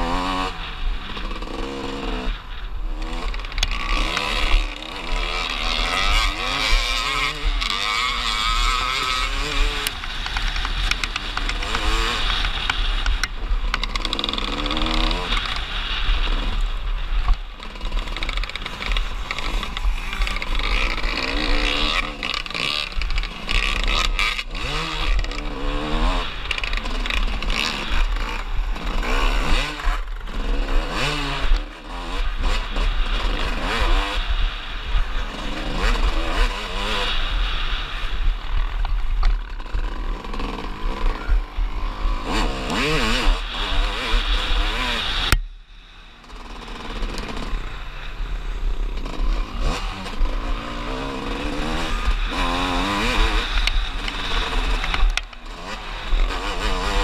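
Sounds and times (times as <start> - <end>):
motorcycle engine revving hard: 0.0 - 45.5, 46.2 - 57.0.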